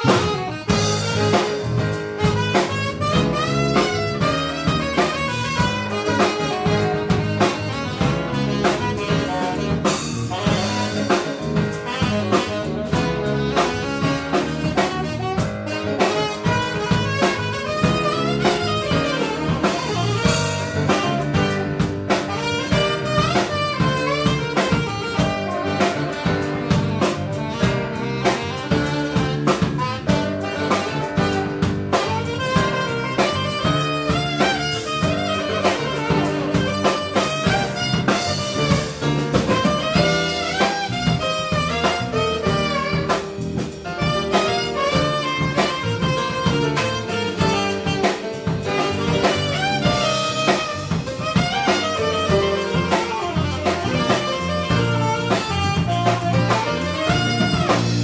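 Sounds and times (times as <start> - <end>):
drum kit: 0.0 - 58.0
electric bass: 0.0 - 58.0
saxophone lead line: 0.0 - 58.0.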